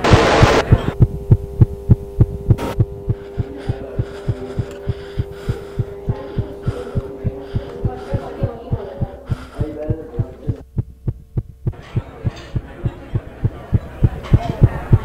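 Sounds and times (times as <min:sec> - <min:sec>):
fast heartbeat thumping: 0:00.0 - 0:15.0
muffled voice-like jumble and hum: 0:00.0 - 0:15.0.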